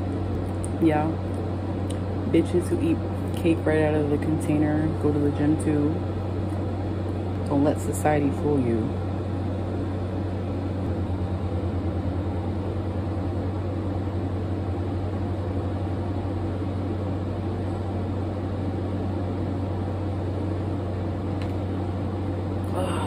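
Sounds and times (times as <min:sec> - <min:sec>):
mechanical hum with flutter: 0:00.0 - 0:23.0.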